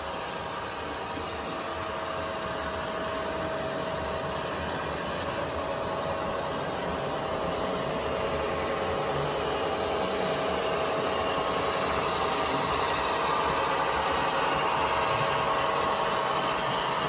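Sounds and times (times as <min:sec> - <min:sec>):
train diesel engine running: 0:00.0 - 0:17.0.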